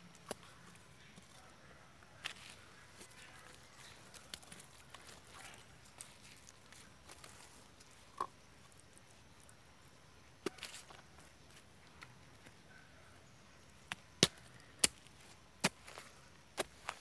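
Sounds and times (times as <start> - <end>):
hands patting soil: 2.2 - 12.6, 13.8 - 17.0.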